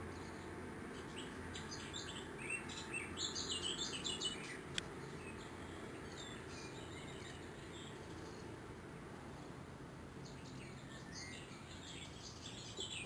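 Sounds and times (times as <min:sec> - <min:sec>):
small bird chirping: 0:00.0 - 0:08.6, 0:10.2 - 0:13.0
low background noise: 0:00.0 - 0:13.0.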